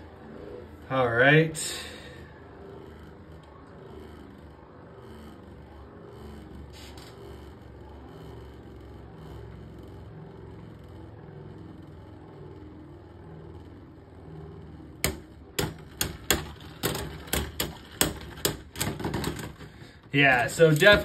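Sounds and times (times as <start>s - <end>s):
spinning tops whirring: 0.0s - 21.0s.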